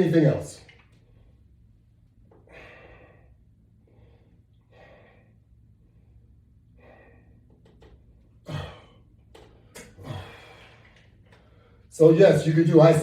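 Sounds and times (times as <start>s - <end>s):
man breathing while exercising: 1.0s - 11.9s.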